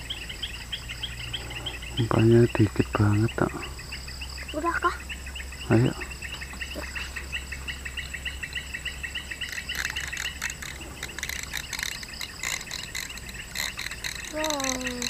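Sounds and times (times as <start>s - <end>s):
higher scratchy chirping: 0.0s - 15.0s
rapid even chirping: 0.0s - 15.0s.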